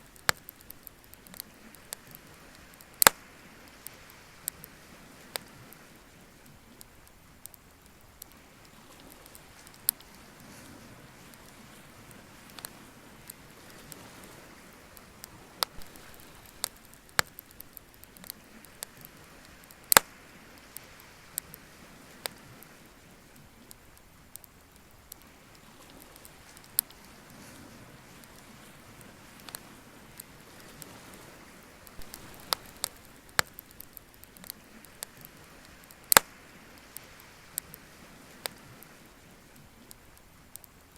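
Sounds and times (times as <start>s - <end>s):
sharp pops from fire: 0.0s - 22.8s, 28.2s - 31.2s, 31.8s - 39.0s
faint steady hiss: 0.0s - 40.9s
wood bonfire crackling: 0.0s - 40.9s.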